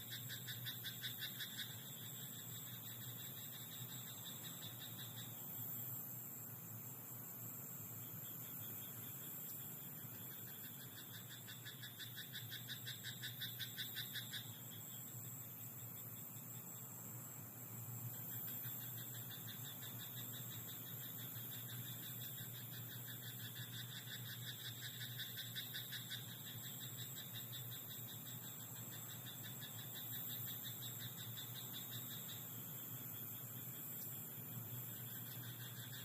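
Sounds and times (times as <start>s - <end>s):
frogs trilling: 0.0s - 6.1s, 7.8s - 36.0s.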